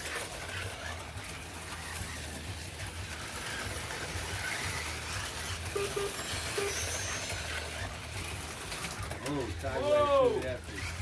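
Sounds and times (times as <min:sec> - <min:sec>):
slot car motors humming: 0:00.0 - 0:11.0.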